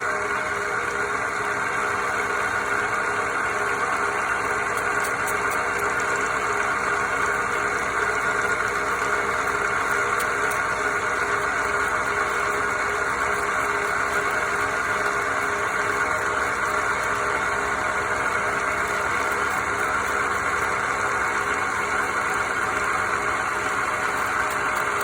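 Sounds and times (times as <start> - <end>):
machine motor humming: 0.0 - 25.0.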